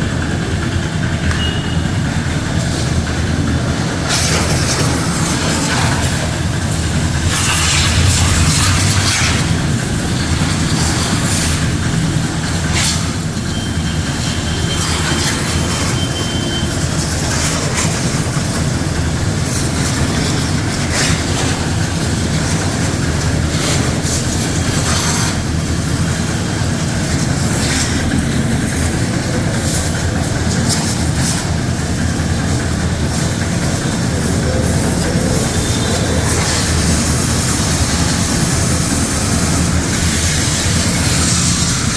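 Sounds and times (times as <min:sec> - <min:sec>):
pressure washer motor hum: 0:00.0 - 0:41.9
water jet spraying: 0:00.0 - 0:41.9.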